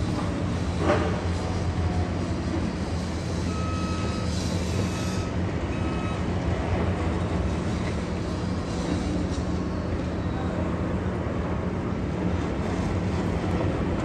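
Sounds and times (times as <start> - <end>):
distant diesel locomotive drone: 0.0 - 14.0.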